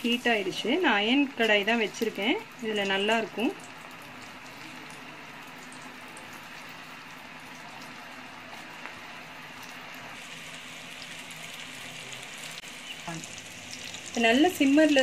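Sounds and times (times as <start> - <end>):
meatballs deep-frying in oil: 0.0 - 15.0.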